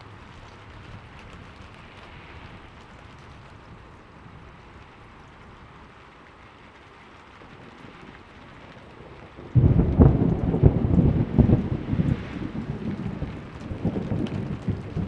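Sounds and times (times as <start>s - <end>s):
steady rain: 0.0s - 15.0s
thunderclap rumbling: 0.0s - 15.0s.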